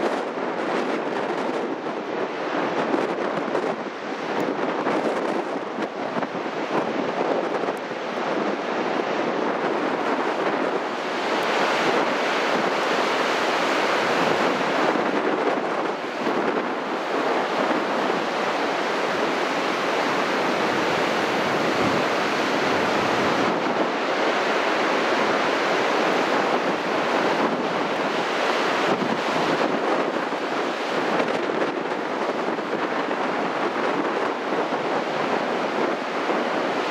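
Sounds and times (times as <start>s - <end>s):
heavy surf breaking on shore: 0.0s - 36.9s
wind buffeting microphone: 0.0s - 36.9s.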